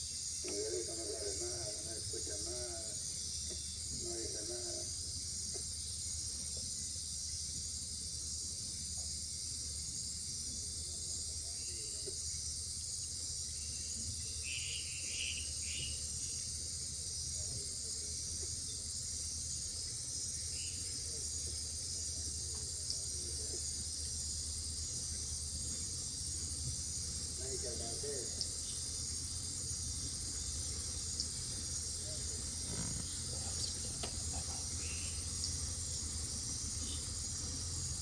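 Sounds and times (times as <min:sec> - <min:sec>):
insect chorus droning: 0:00.0 - 0:38.0.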